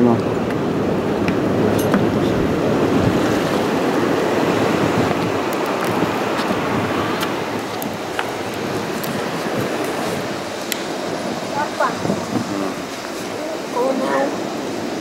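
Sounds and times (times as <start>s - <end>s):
ocean surf: 0.0s - 15.0s
wind on microphone: 0.0s - 15.0s.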